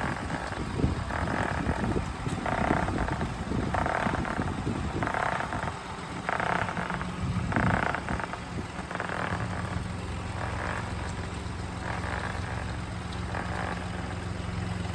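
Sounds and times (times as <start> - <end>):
steady low hum: 0.0 - 14.9
tyre rhythmic growling: 0.0 - 14.9.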